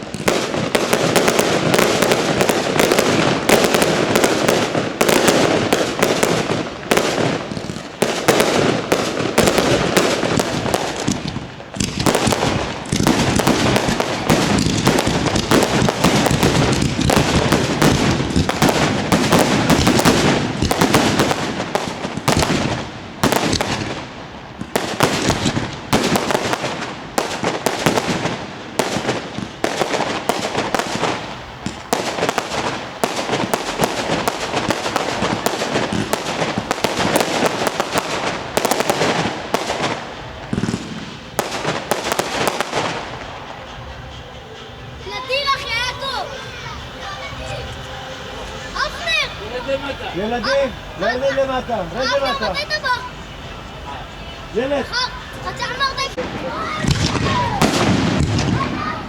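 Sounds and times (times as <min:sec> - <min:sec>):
fireworks banging and crackling: 0:00.0 - 0:59.0.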